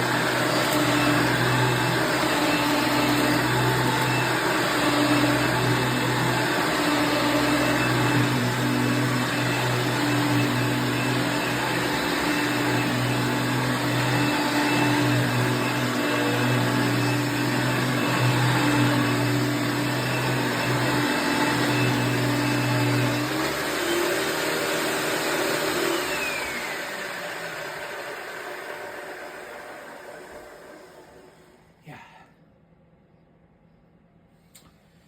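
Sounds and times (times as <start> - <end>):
vacuum cleaner running: 0.0 - 31.7.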